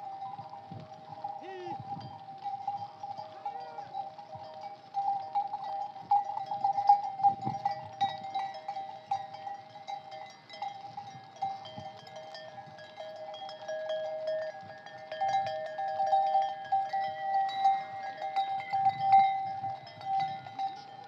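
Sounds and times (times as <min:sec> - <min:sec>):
sheep bells clanking: 0:00.0 - 0:21.0.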